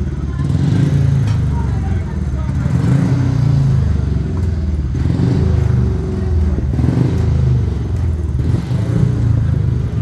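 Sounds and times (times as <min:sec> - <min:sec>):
motorcycle engines running: 0:00.0 - 0:10.0.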